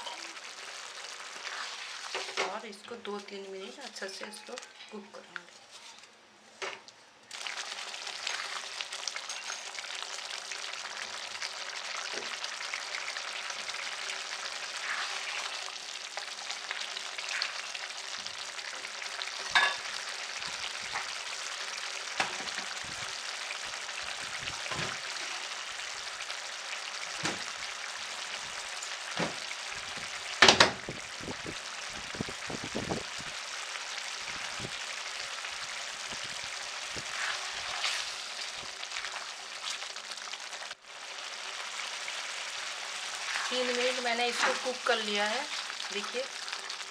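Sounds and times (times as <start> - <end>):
food sizzling in a pan: 0.0 - 46.9.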